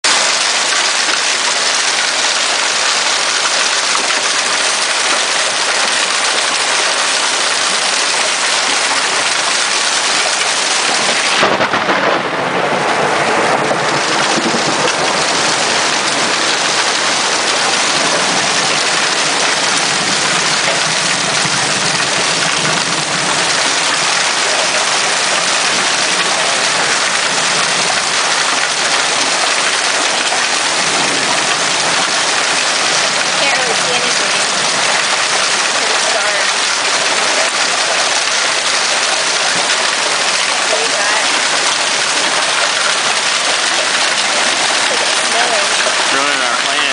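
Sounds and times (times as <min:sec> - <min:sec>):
hail and rain pelting down: 0:00.0 - 0:46.9.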